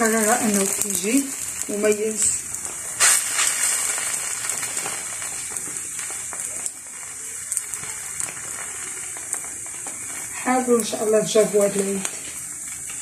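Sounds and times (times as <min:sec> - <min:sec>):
flatbread sizzling in a pan: 0:00.0 - 0:13.0.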